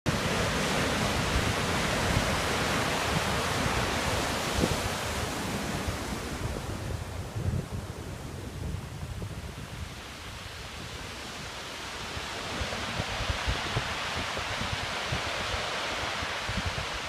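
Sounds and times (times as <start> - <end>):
sea surf washing on shore: 0.1 - 17.0
wind buffeting microphone: 0.1 - 17.0.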